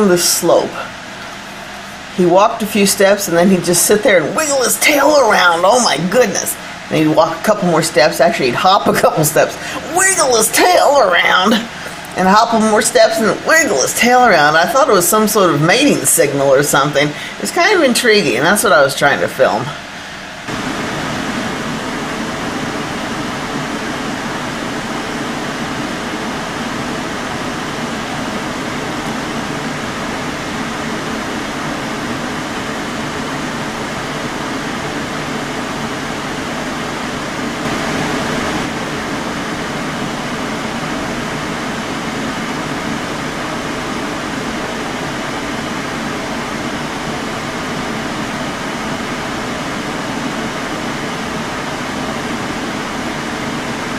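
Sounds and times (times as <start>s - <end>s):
machine hum and hiss: 0.0s - 53.9s.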